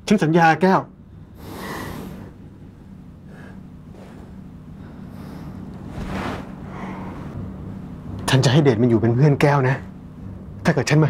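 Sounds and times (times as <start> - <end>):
faint low steady hum: 0.0 - 11.0.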